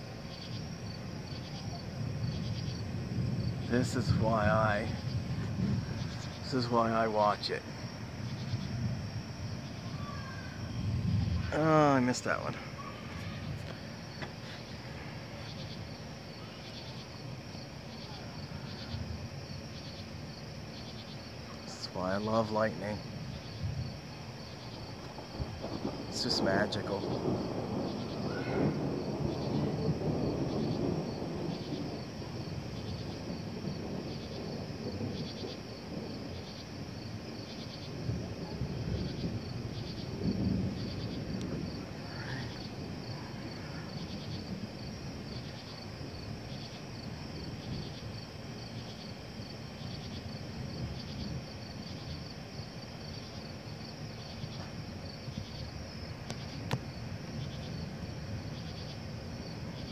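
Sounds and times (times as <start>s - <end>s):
low thunder rumbling: 0.0s - 59.9s
night insects chirping: 0.0s - 59.9s.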